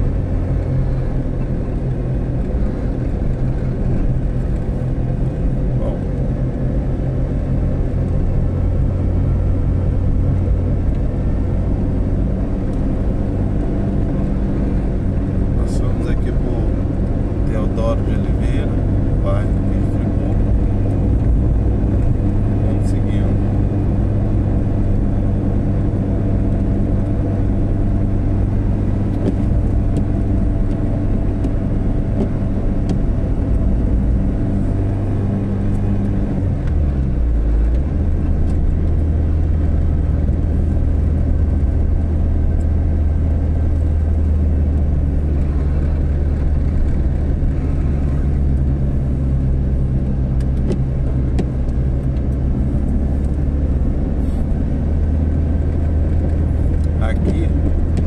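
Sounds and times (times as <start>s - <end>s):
car engine: 0.0s - 58.0s
road noise: 0.0s - 58.0s.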